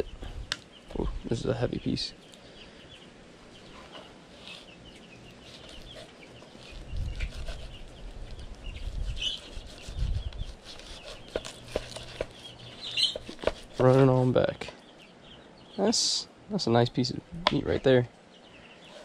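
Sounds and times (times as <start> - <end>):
birds chirping and clucking: 0.0 - 19.0.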